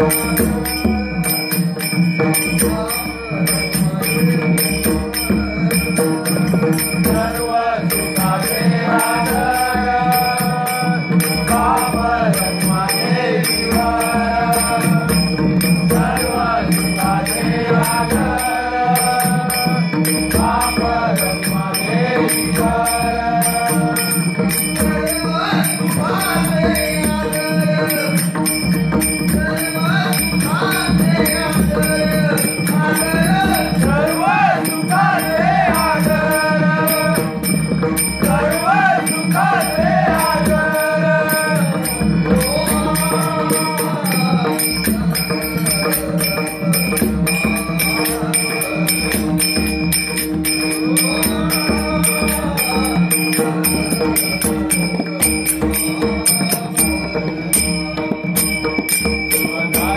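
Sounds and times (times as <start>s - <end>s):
jingling small bells: 0.0s - 59.9s
voices chanting devotional melody: 0.0s - 59.9s.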